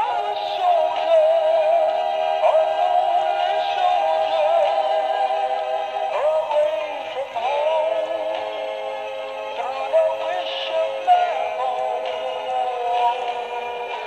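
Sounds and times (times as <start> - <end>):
toy singing through speaker: 0.0 - 8.4, 9.5 - 14.0.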